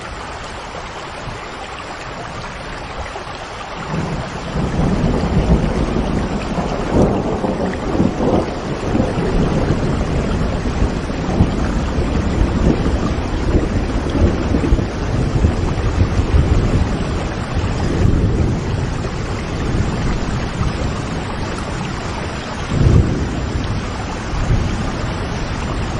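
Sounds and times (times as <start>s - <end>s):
heavy rain falling: 0.0s - 25.9s
thunder rumbling: 3.8s - 25.9s.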